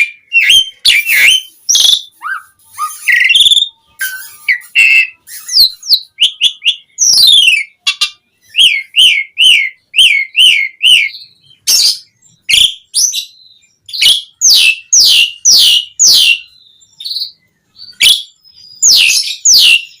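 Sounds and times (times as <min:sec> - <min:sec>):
starling singing whistled notes: 0:00.0 - 0:20.0.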